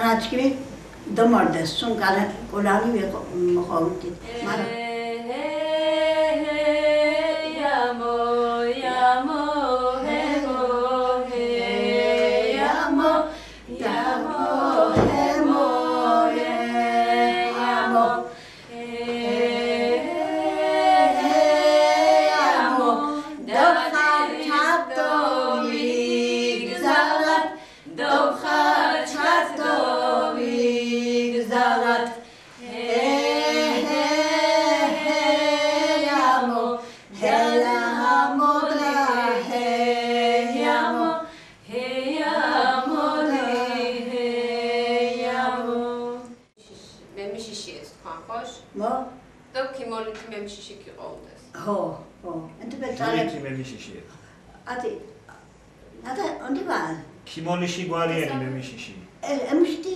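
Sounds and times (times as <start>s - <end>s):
women singing unaccompanied: 0.0s - 47.0s, 52.4s - 53.4s.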